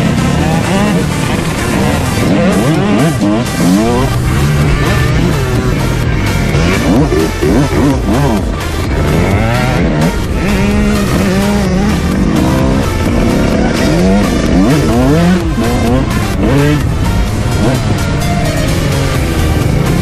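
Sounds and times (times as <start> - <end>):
quad engines revving: 0.0 - 20.0.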